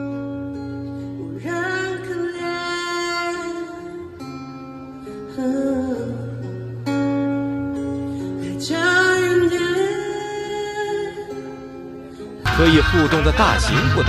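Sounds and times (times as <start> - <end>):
guitar: 0.0 - 14.0.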